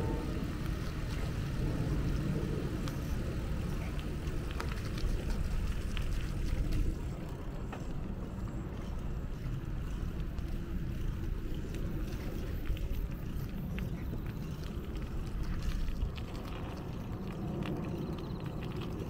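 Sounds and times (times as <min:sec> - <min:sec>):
road traffic rumble: 0:00.0 - 0:19.0
wind: 0:00.0 - 0:19.0.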